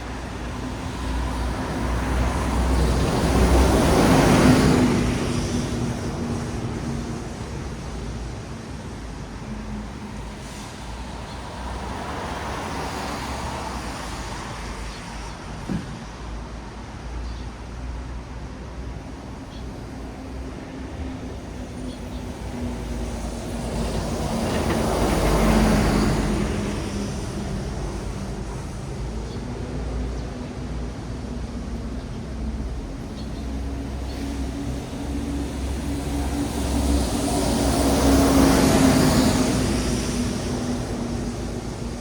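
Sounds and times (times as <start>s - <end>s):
tyres hissing on wet road: 0.0s - 42.0s.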